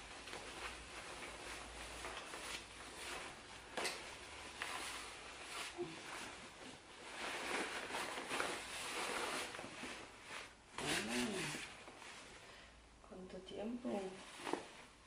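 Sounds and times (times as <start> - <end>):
fabric rustling and swishing: 0.0 - 12.6, 13.6 - 15.0.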